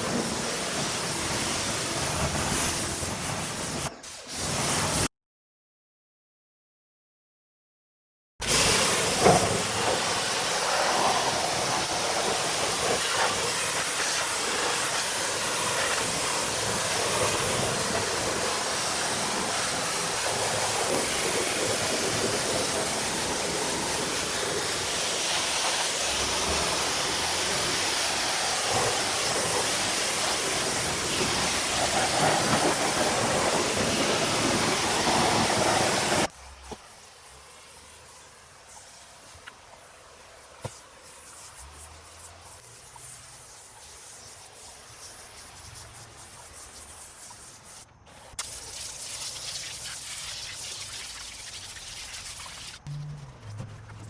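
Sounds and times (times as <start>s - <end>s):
pressure washer spraying water: 0.0s - 5.1s, 8.4s - 54.0s.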